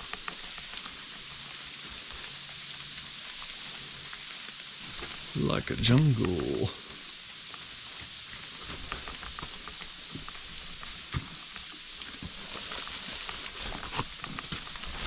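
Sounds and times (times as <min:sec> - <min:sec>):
steady high hiss from woods: 0:00.0 - 0:15.0.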